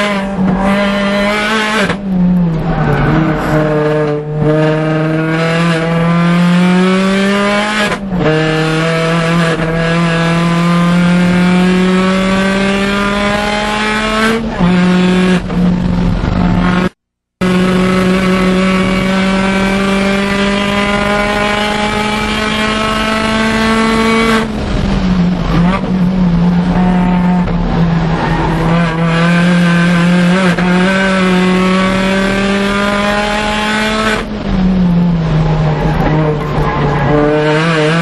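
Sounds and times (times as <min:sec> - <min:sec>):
car engine at high revs: 0:00.0 - 0:38.0.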